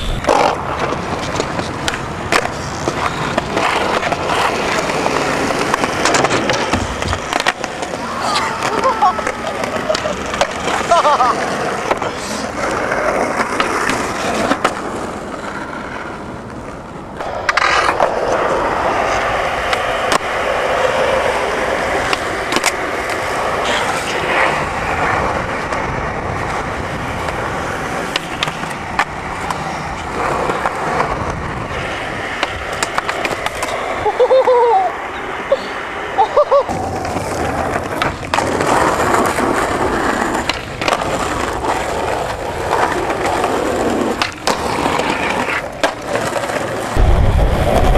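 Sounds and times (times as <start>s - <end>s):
skateboard clacks popping and landing: 0.0s - 33.9s, 36.7s - 47.0s
skateboard wheels rolling on pavement: 0.0s - 47.9s.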